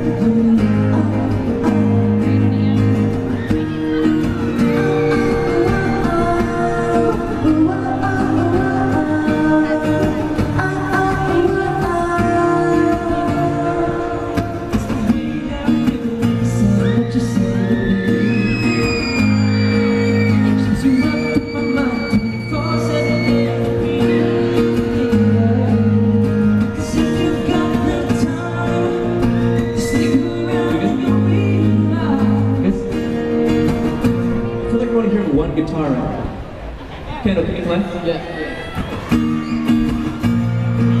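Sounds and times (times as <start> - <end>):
guitar: 0.0 - 41.0
live pop band music: 0.0 - 41.0.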